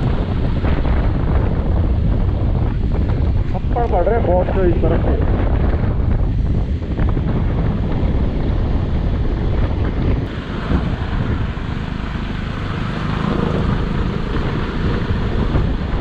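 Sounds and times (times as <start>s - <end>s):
motorcycle running: 0.0s - 16.0s
wind buffeting microphone: 0.0s - 16.0s.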